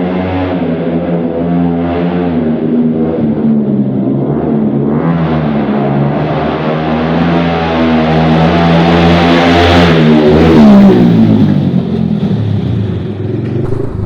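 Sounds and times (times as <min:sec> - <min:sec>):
motorcycle engine revving in tunnel: 0:00.0 - 0:14.0.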